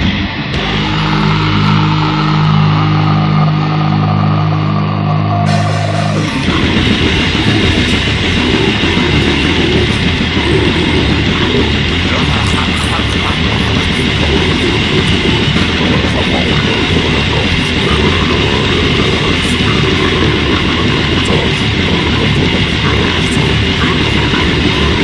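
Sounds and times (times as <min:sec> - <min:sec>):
distorted electric guitar chord: 0:00.0 - 0:25.0
fast heavy band with drums: 0:00.0 - 0:25.0.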